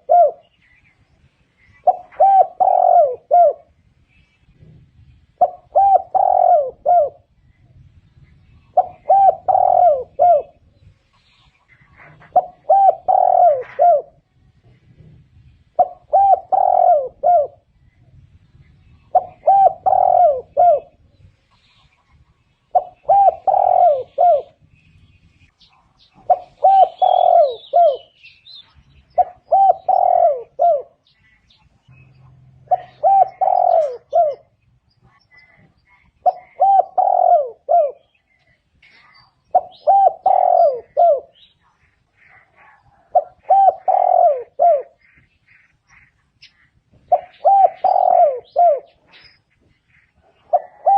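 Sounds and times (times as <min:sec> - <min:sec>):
dove cooing: 0:00.0 - 0:00.7, 0:01.6 - 0:03.8, 0:04.5 - 0:10.8, 0:11.6 - 0:21.3, 0:22.1 - 0:24.8, 0:26.0 - 0:28.2, 0:28.9 - 0:31.5, 0:32.3 - 0:46.1, 0:46.9 - 0:50.9
small birds chirping: 0:00.0 - 0:50.9.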